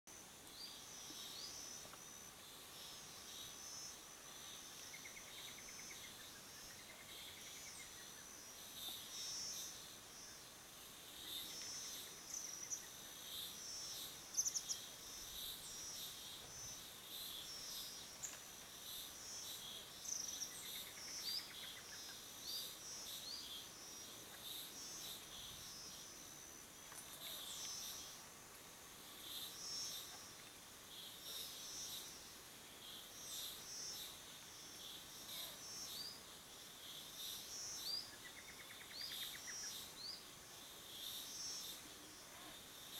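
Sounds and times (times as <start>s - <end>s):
insect chorus buzzing: 0.1s - 42.9s.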